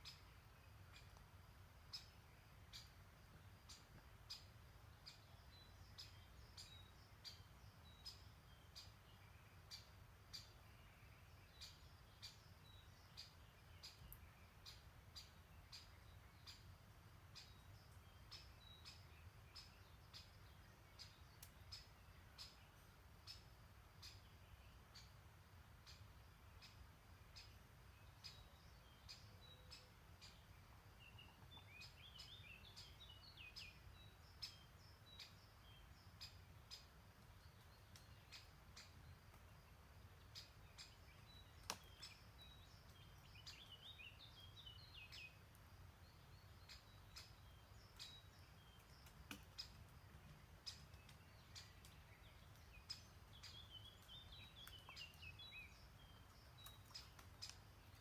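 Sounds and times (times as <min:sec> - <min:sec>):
songbird song: 0:00.0 - 0:58.0.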